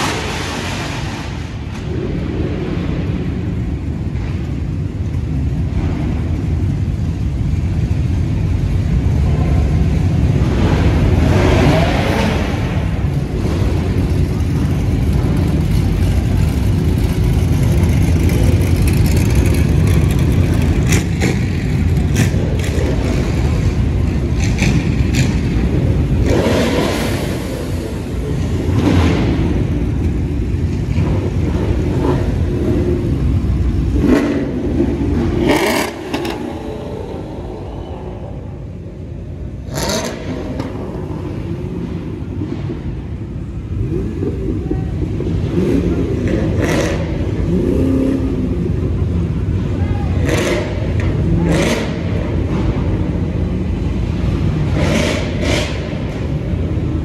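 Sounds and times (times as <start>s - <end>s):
vehicle engines revving: 0.0s - 57.0s.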